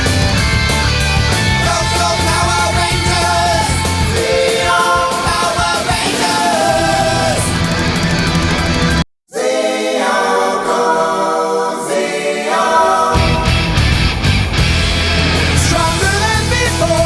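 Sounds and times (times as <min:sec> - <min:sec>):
rock song with sung vocals: 0:00.0 - 0:10.6, 0:12.4 - 0:17.0.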